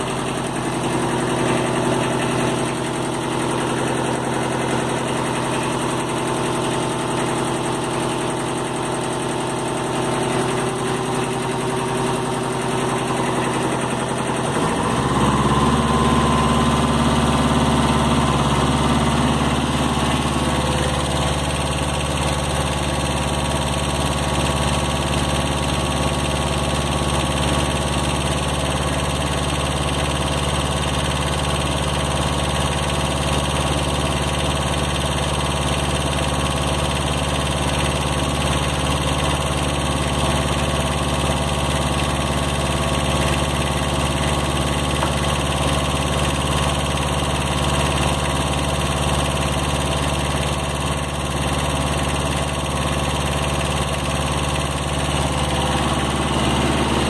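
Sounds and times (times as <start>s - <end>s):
diesel tractor engine idling: 0.0s - 57.0s.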